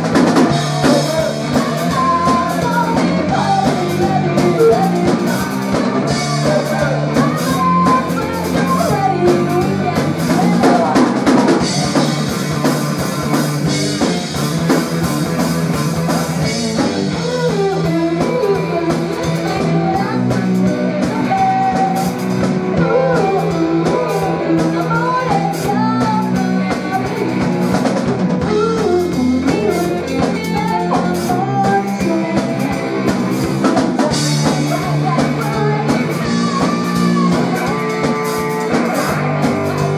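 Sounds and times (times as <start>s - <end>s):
drum kit beat: 0.0s - 39.9s
electric bass: 0.0s - 39.9s
electric guitar: 0.0s - 39.9s
woman singing: 0.4s - 12.1s, 16.7s - 39.9s.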